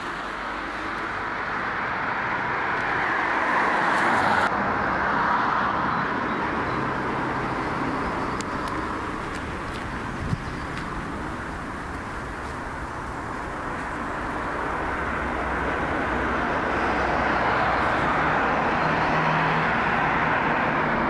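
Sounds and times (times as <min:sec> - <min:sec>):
passing cars tyre and engine noise: 0:00.0 - 0:21.0.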